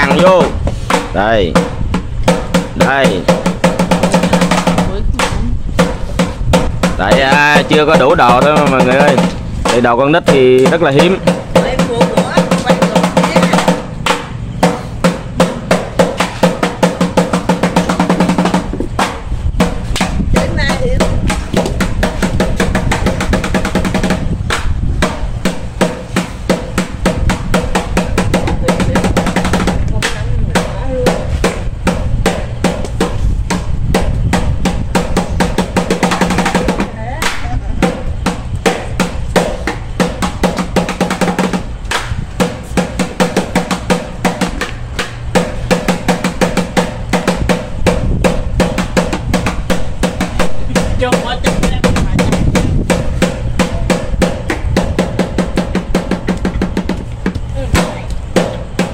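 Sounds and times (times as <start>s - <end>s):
fast drumming with rolls: 0.0s - 58.9s.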